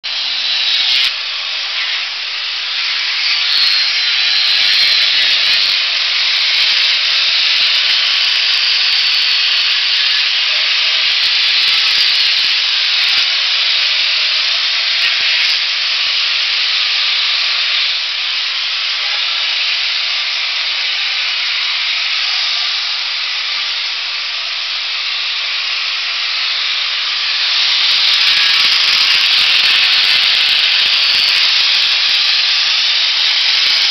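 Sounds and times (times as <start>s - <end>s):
grinder rasping against hoof: 0.0s - 33.9s.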